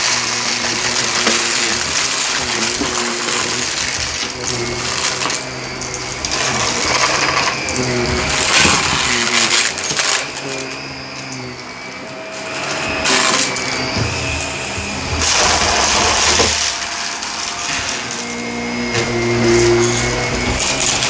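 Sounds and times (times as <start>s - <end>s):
vacuum cleaner motor humming: 0.0s - 21.0s.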